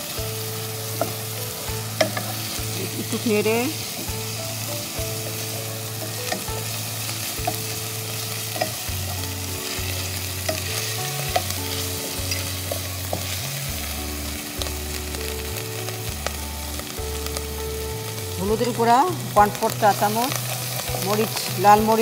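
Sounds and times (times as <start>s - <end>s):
onions frying in oil: 0.0s - 22.0s.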